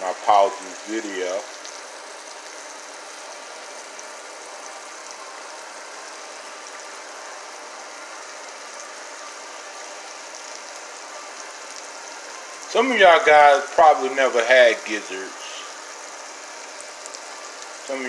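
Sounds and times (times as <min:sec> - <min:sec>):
oil sizzling and crackling: 0:00.0 - 0:18.0.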